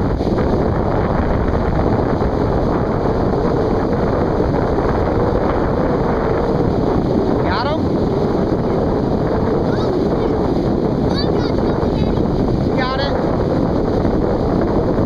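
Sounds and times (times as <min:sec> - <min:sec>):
surf breaking: 0:00.0 - 0:15.0
wind on microphone: 0:00.0 - 0:15.0.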